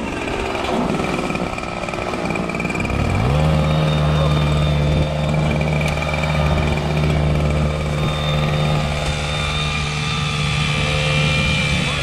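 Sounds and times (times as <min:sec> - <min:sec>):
ice auger engine running: 0:00.0 - 0:12.0.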